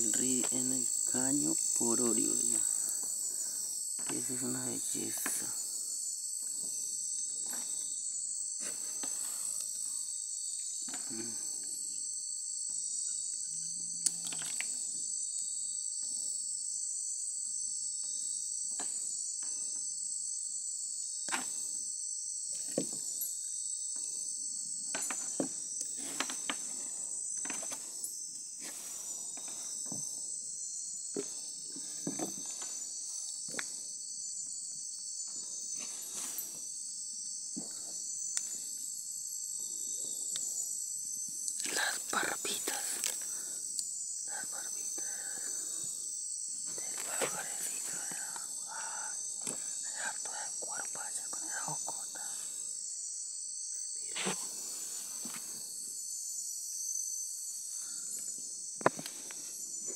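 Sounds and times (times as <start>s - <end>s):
high-pitched insect chorus trilling: 0.0s - 59.9s.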